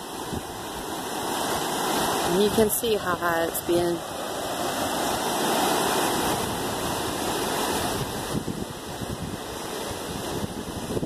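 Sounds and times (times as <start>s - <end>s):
flooded creek rushing: 0.0s - 11.0s.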